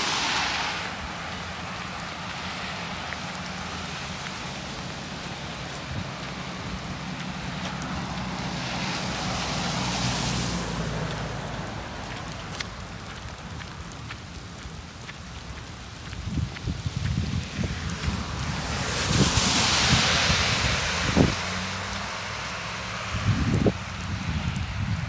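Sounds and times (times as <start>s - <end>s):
car tyres hissing on wet road: 0.0s - 25.0s
rain falling on pavement: 0.0s - 25.0s.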